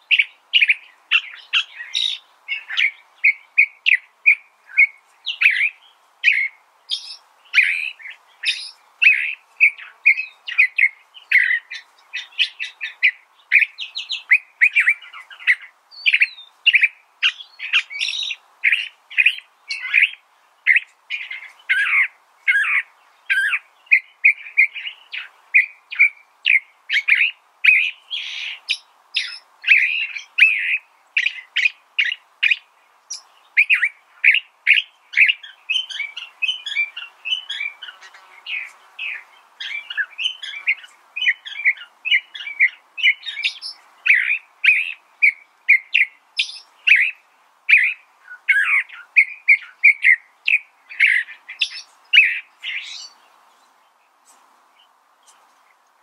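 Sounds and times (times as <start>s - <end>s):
bird singing varied chirps: 0.0s - 55.8s.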